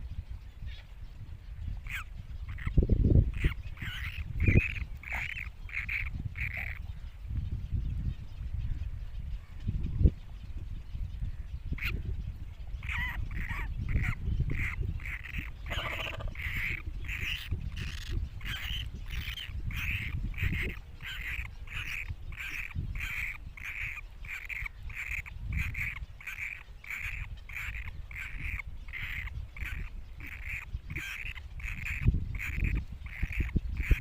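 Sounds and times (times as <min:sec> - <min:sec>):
cormorant chicks calling: 0:01.8 - 0:07.1, 0:11.2 - 0:34.0.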